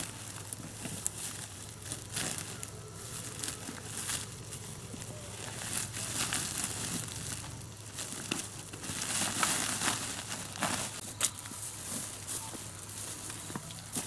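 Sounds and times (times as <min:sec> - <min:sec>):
leaves and twigs rustling: 0:00.0 - 0:14.0.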